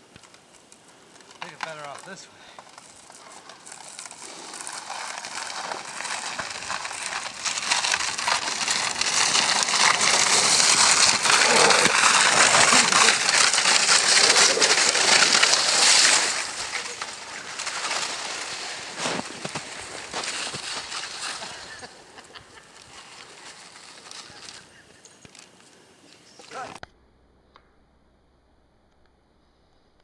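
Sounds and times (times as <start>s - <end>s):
sled runners scraping over ice: 1.1s - 25.6s, 26.2s - 26.8s.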